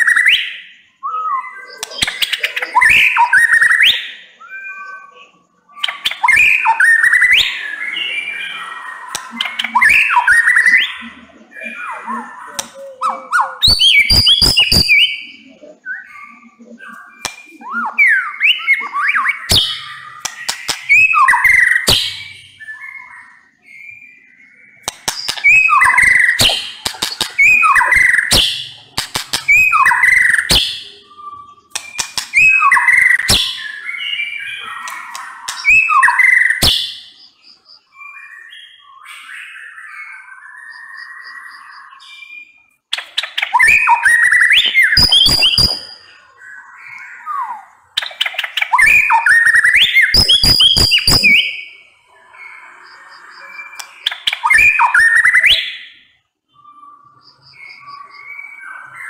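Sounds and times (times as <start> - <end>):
bird singing whistled phrases: 0.0 - 59.0.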